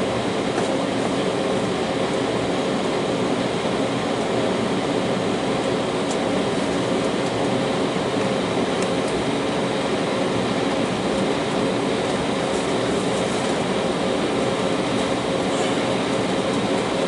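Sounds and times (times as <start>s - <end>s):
airliner cabin noise: 0.0s - 17.0s.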